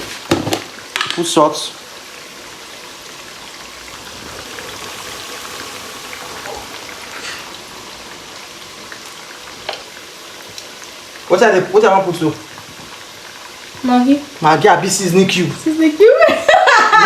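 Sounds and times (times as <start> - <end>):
sauce sizzling in a pot: 0.0 - 17.0.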